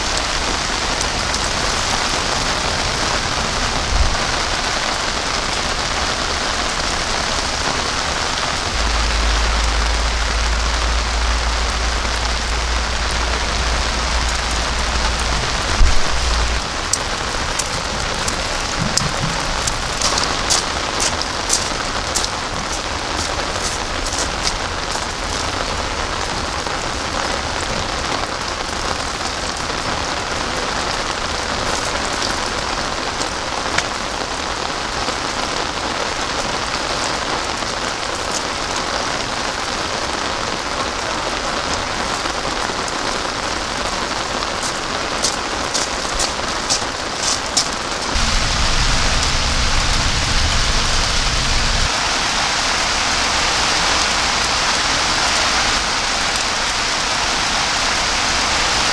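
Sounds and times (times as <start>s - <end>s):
heavy rain pouring: 0.0s - 58.9s
raindrops tapping close by: 0.0s - 58.9s.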